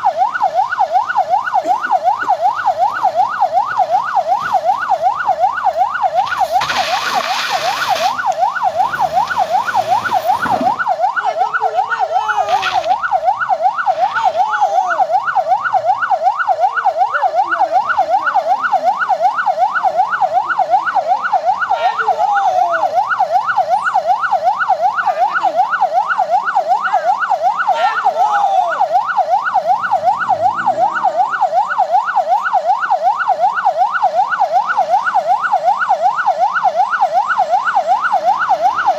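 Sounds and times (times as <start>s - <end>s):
electronic siren yelping: 0.0s - 38.9s.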